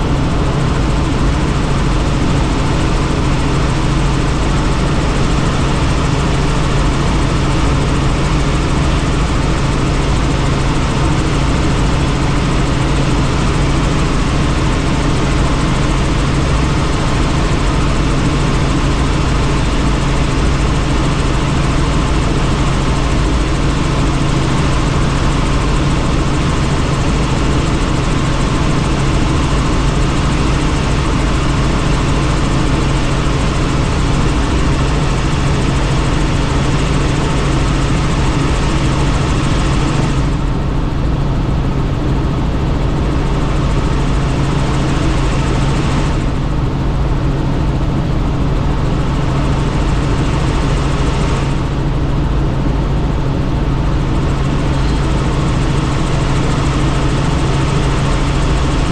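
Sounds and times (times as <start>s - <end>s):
helicopter rotor and engine noise: 0.0s - 58.9s.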